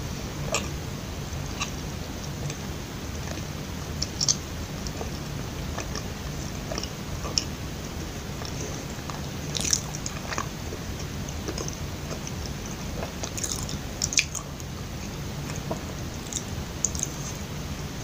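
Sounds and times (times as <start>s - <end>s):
chewing sticky food: 0.4s - 0.8s, 1.4s - 17.5s.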